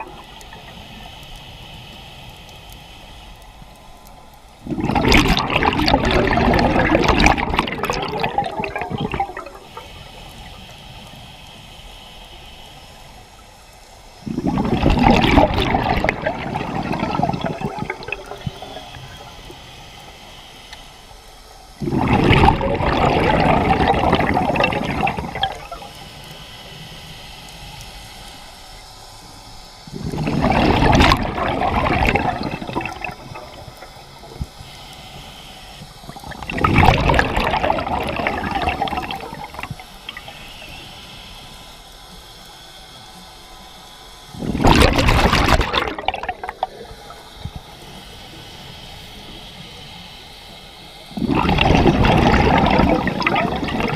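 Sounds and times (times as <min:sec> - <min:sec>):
scuba exhaust bubbles gurgling: 0:00.0 - 0:11.6, 0:14.0 - 0:27.0, 0:28.6 - 0:42.4, 0:43.0 - 0:53.9
faint steady hiss: 0:00.0 - 0:53.9.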